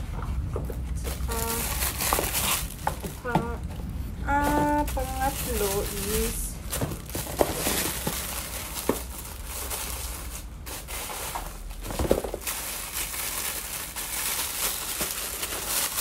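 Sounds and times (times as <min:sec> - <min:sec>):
plastic bags crinkling: 0:00.6 - 0:16.0.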